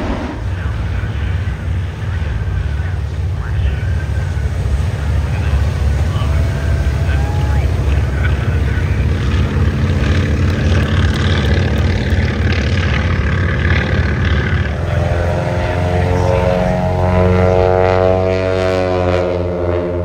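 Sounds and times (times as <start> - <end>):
propeller aircraft engines droning: 0.0 - 20.0.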